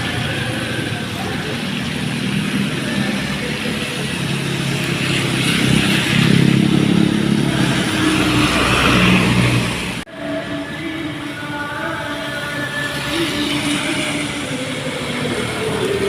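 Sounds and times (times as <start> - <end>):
truck diesel engine passing: 0.0 - 16.0.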